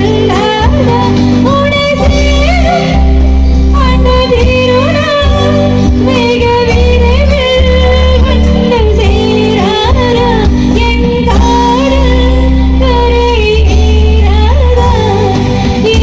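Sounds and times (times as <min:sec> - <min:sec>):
band accompaniment: 0:00.0 - 0:16.0
woman singing into microphone: 0:00.0 - 0:16.0.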